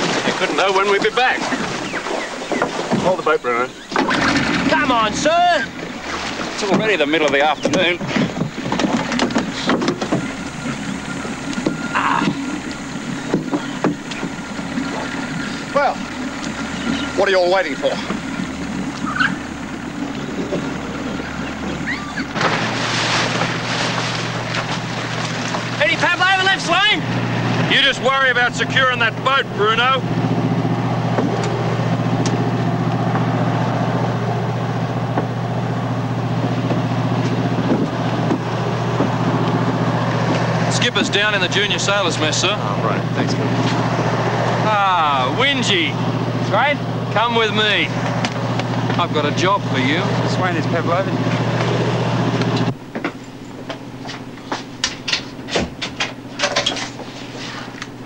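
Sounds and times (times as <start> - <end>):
boat motor idling: 0.0 - 58.0.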